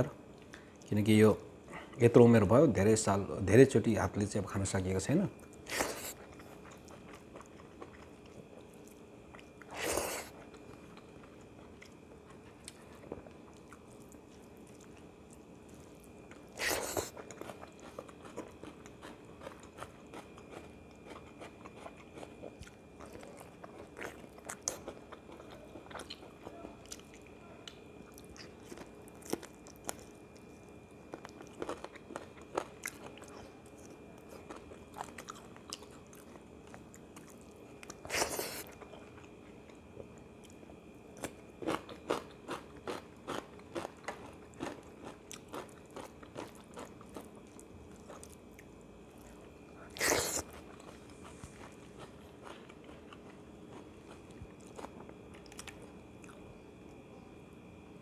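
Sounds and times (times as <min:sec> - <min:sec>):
faint steady hum: 0:00.0 - 0:58.0
man chewing food: 0:05.4 - 0:57.1.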